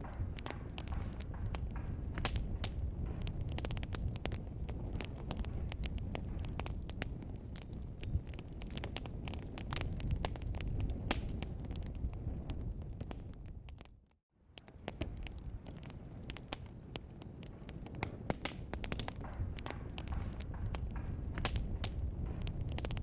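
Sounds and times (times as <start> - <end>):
fire rumbling: 0.0 - 23.0
wood fire crackling and popping: 0.0 - 23.0.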